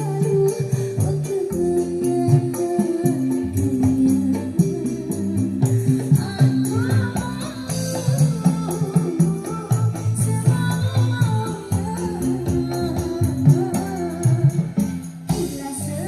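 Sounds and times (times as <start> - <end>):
bass line: 0.0 - 16.0
jingling percussion: 0.0 - 16.0
music with steady beat: 0.0 - 16.0.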